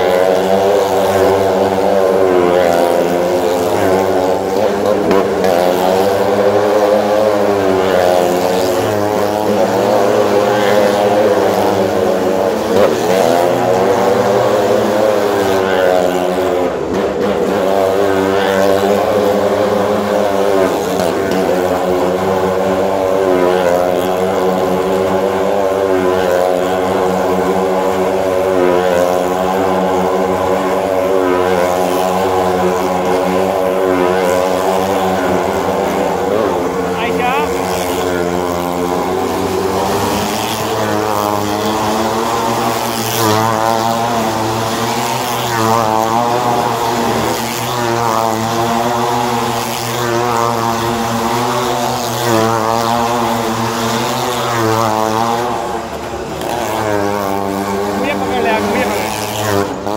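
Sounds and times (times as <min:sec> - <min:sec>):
motorcycle and car engines circling: 0:00.0 - 0:59.9.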